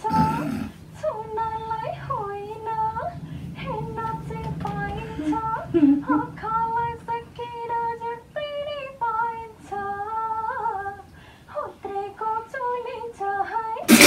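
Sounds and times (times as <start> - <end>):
woman singing slow melody: 0.0 - 14.0.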